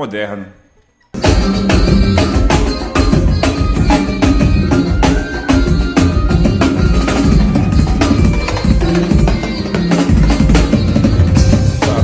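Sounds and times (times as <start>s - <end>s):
band music with bass and keyboard: 1.1s - 12.0s
fast drum fill: 1.2s - 12.0s.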